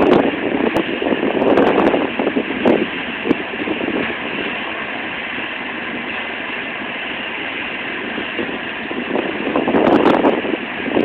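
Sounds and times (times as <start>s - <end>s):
train idling hum: 0.0s - 11.0s
wind buffeting microphone: 0.0s - 11.0s.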